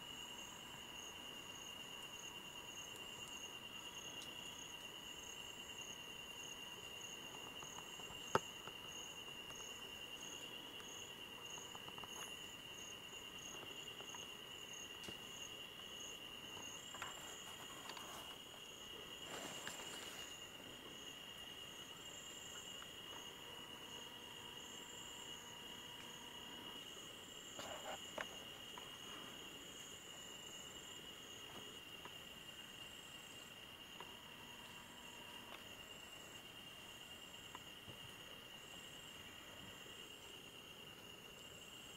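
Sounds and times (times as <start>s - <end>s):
cricket trill: 0.0s - 41.9s
pulsing insect chirp: 0.0s - 41.9s.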